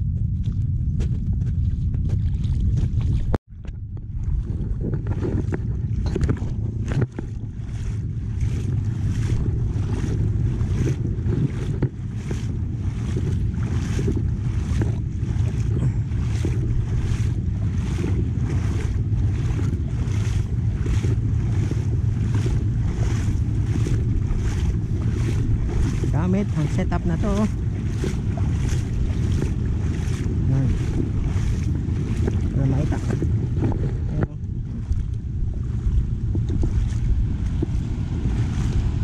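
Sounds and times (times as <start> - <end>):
footsteps splashing in water: 0.0 - 39.0
wind on microphone: 0.0 - 39.0.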